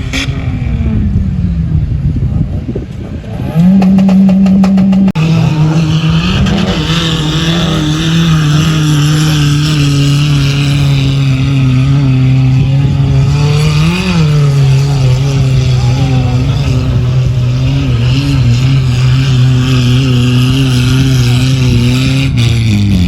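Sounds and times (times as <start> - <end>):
off-road vehicle engine at high revs: 0.0 - 23.0.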